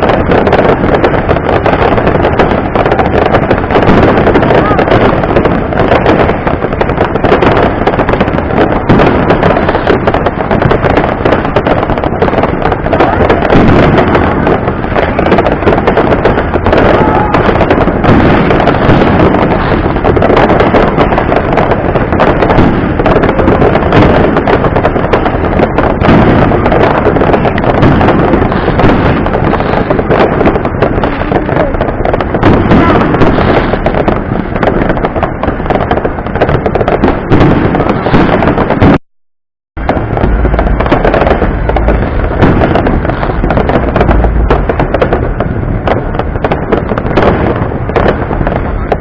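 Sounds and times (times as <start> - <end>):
fireworks bangs and crackling: 0.0 - 39.0, 39.8 - 49.0.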